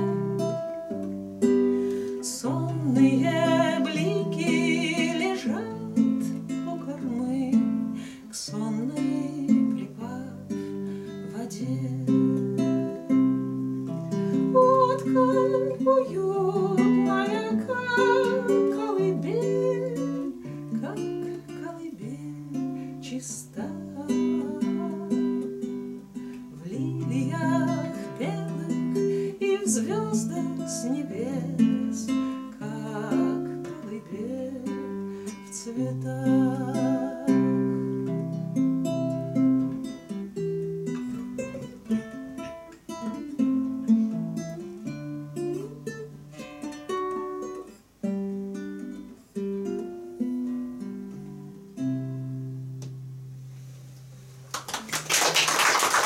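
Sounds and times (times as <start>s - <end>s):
classical guitars playing: 0.0s - 54.4s.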